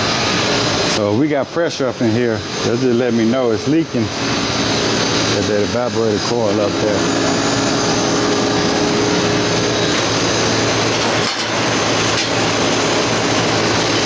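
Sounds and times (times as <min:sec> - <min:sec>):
air conditioner fan rushing: 0:00.0 - 0:14.0
low compressor hum: 0:00.0 - 0:14.0.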